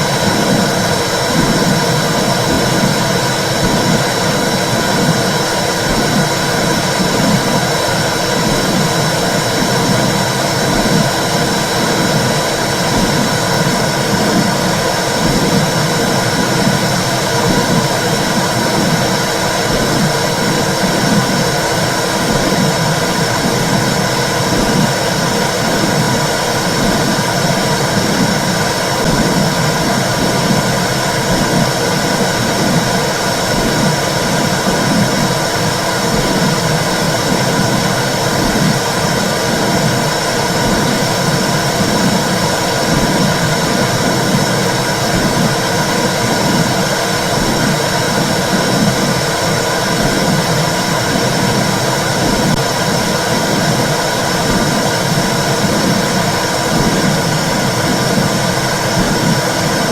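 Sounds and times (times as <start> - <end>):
loud whooshing womb noise: 0.0 - 59.9
low pulsing: 0.0 - 59.9.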